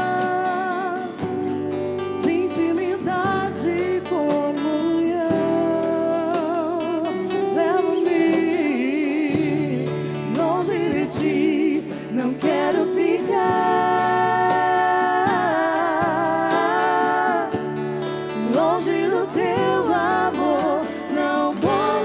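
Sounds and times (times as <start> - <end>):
acoustic guitar: 0.0 - 22.0
person singing with vibrato: 0.0 - 22.0.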